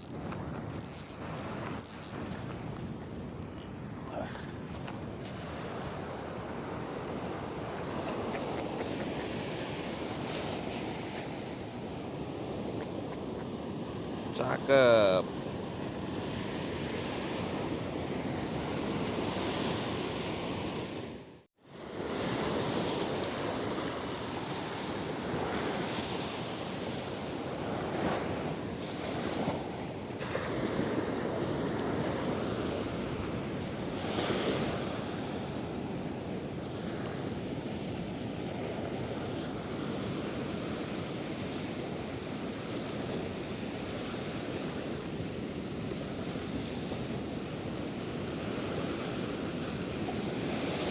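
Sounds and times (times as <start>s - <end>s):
sea waves against breakwater: 0.0s - 50.9s.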